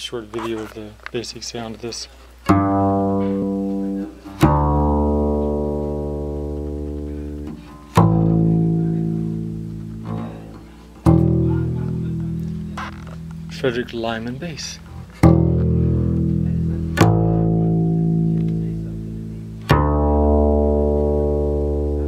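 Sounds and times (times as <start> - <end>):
double bass plucked notes: 2.4 - 22.0.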